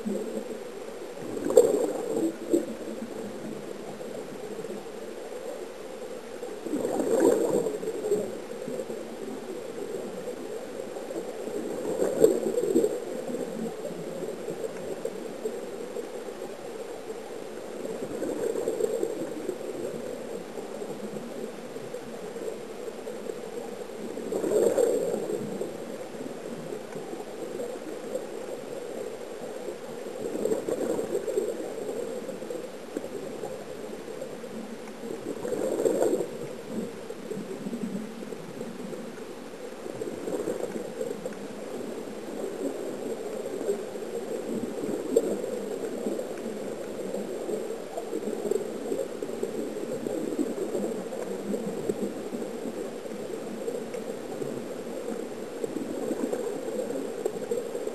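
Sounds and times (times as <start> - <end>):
underwater bubbling: 0.0 - 57.9.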